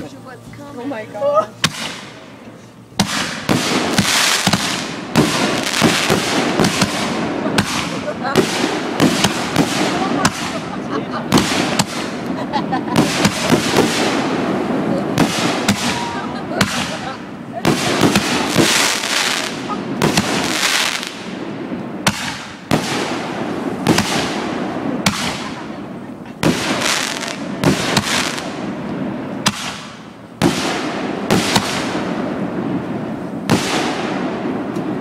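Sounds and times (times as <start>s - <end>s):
fireworks bangs: 1.6s - 35.0s.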